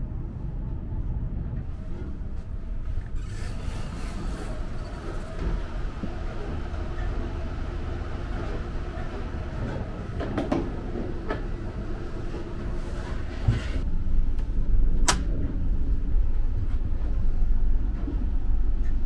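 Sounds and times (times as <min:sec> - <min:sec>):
train running at speed: 0:00.0 - 0:19.0.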